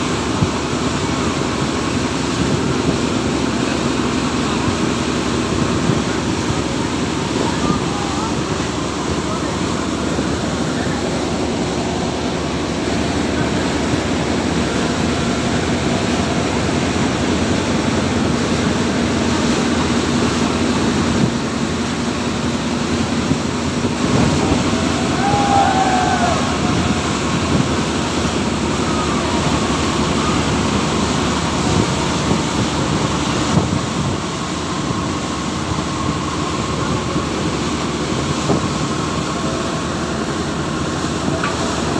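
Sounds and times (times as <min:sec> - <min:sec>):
boat engine hum: 0:00.0 - 0:41.9
rushing wake water: 0:00.0 - 0:41.9.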